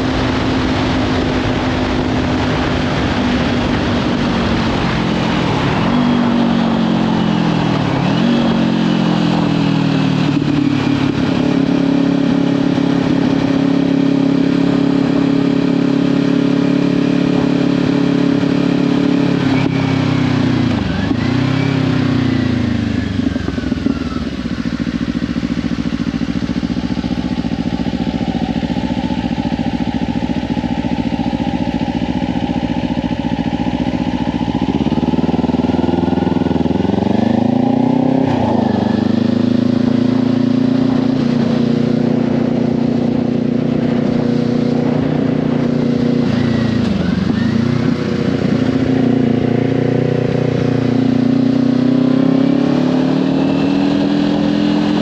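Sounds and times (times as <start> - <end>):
wind noise on microphone: 0.0 - 24.5, 25.6 - 55.0
motorcycle engine running: 0.0 - 55.0.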